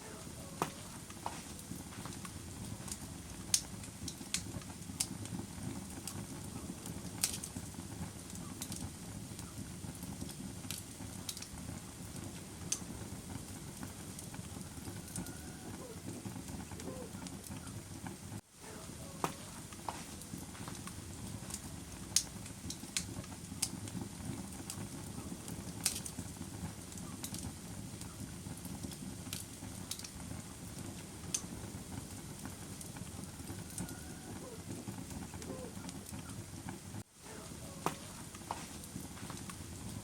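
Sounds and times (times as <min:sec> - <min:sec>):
campfire flames rushing: 0:00.0 - 0:40.0
wood crackling and popping: 0:00.0 - 0:40.0.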